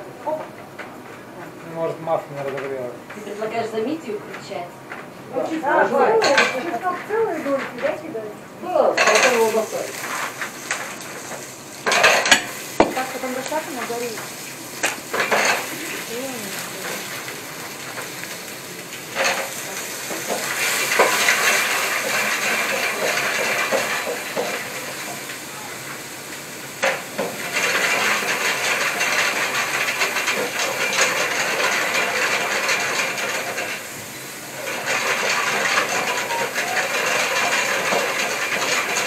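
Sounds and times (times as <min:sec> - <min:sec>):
food sizzling in hot oil: 0:05.4 - 0:39.0.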